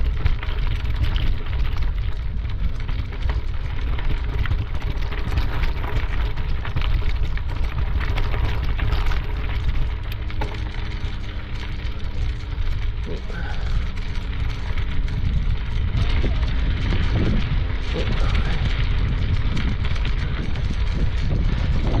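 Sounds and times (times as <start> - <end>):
footsteps crunching on gravel: 0.0 - 22.0
wind rumbling on microphone: 0.0 - 22.0.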